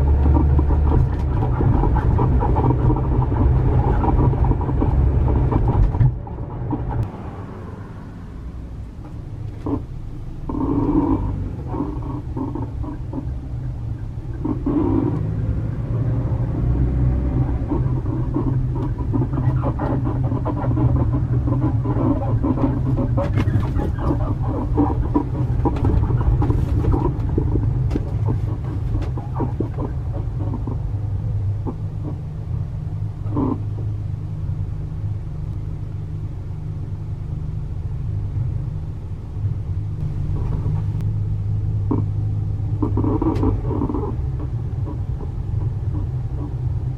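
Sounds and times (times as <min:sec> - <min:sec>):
suspension creaking and squeaking: 0:00.0 - 0:07.1, 0:08.9 - 0:34.0, 0:40.0 - 0:41.1, 0:41.8 - 0:46.9
road and engine drone: 0:00.0 - 0:46.9.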